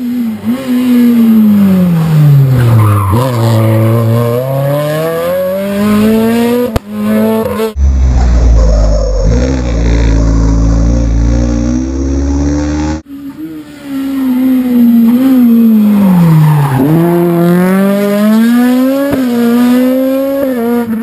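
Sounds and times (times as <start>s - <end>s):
rally car engines revving: 0.0s - 21.0s.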